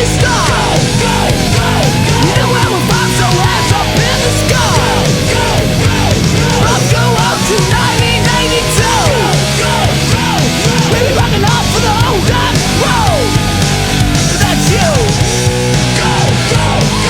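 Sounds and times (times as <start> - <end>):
heavy rock music: 0.0 - 17.0.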